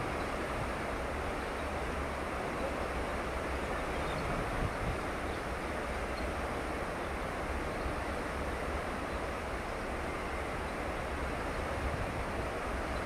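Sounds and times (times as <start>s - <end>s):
churning water rushing: 0.0s - 13.0s.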